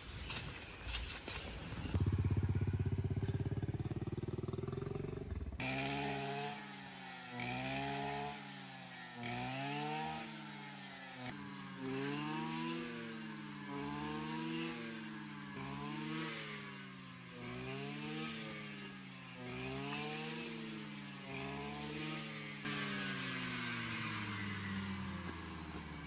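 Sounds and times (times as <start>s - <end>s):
small petrol engine revving: 1.6s - 26.0s.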